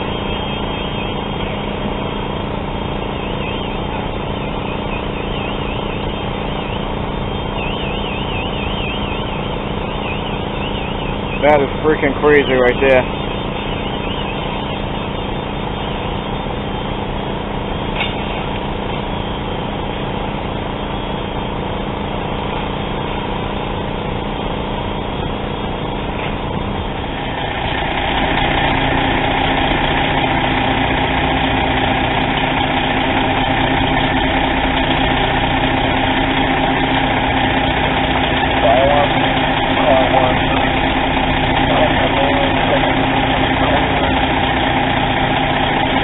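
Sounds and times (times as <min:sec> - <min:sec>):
fire truck engine running: 0:00.0 - 0:46.0.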